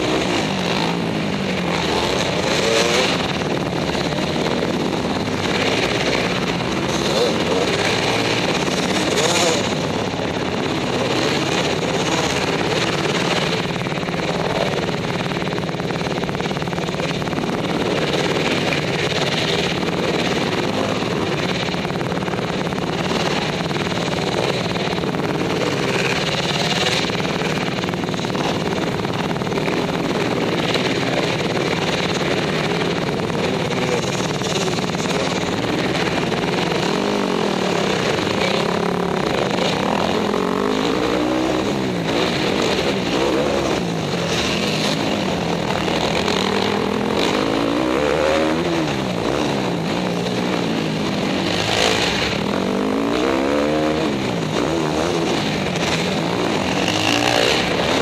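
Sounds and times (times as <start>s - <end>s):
dirt bike engine revving: 0.0s - 58.0s
other dirt bikes running: 0.0s - 58.0s.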